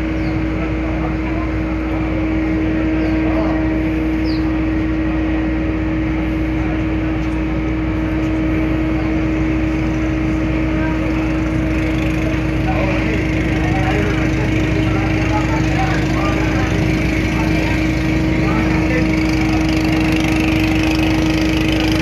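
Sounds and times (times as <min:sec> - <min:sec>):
ferry engines humming: 0:00.0 - 0:22.0.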